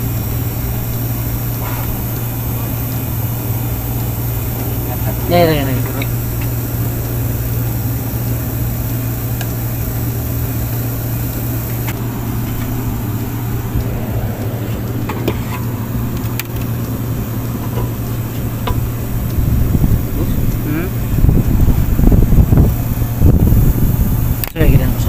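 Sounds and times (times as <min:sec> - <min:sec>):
air conditioning hum: 0:00.0 - 0:25.0.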